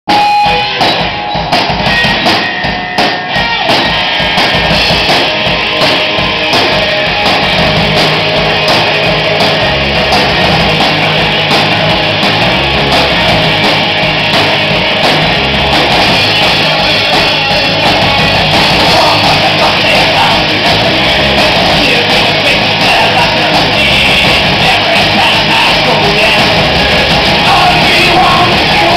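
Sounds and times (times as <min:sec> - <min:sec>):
rock band playing live: 0:00.1 - 0:28.9.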